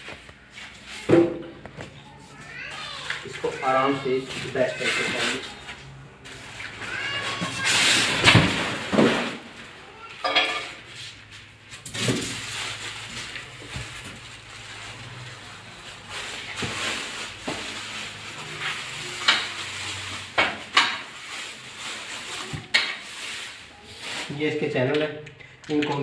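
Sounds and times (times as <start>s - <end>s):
plastic wrapping crinkling: 2.2s - 10.1s, 11.7s - 24.7s.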